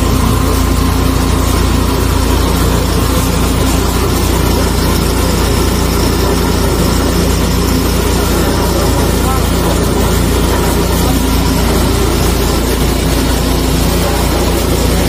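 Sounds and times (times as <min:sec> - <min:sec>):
petrol engine running: 0:00.0 - 0:15.0.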